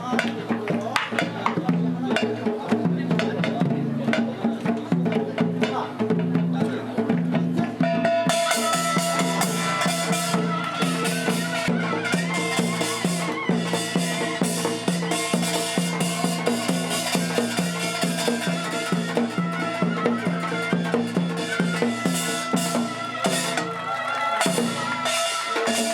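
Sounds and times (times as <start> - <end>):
steady repeating drum beat: 0.1 - 25.9.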